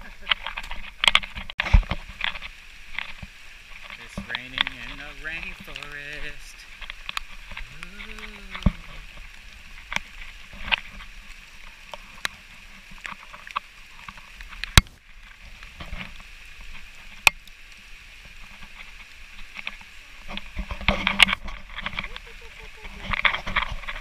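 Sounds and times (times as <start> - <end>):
steady high hiss: 1.8 - 24.0.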